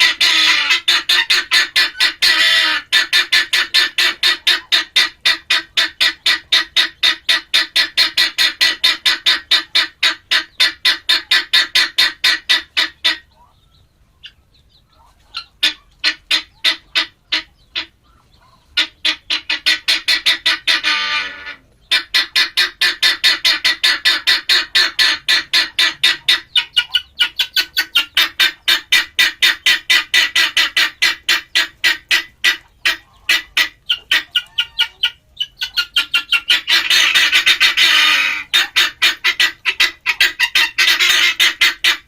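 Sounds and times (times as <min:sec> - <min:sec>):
guineafowl chattering call: 0:00.0 - 0:42.0.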